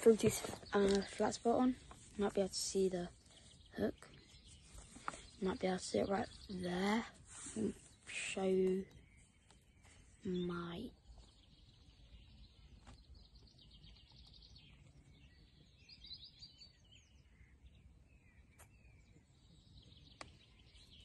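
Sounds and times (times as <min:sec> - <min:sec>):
chirping birdsong trills: 0:00.0 - 0:21.0.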